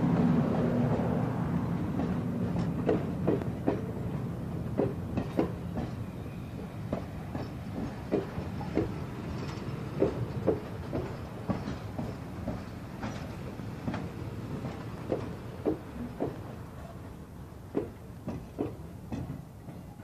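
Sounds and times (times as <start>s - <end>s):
train rumble: 0.0s - 20.0s
wheels clicking over rail joints: 0.0s - 20.0s.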